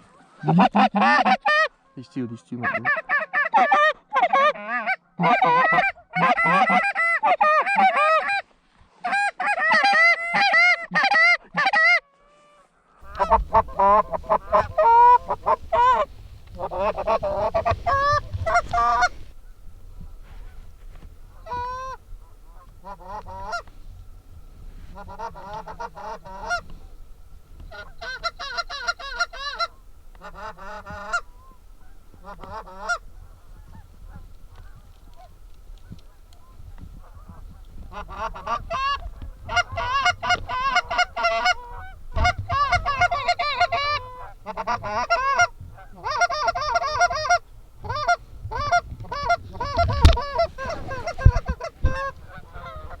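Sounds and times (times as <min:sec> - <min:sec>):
goose calls honking and clucking: 0:00.1 - 0:01.7, 0:02.6 - 0:08.4, 0:09.0 - 0:12.4, 0:13.0 - 0:53.0.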